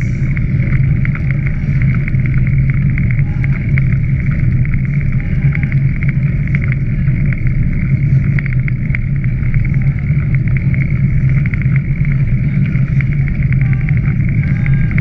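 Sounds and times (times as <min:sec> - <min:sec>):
rumble and wind buffeting: 0:00.0 - 0:15.0.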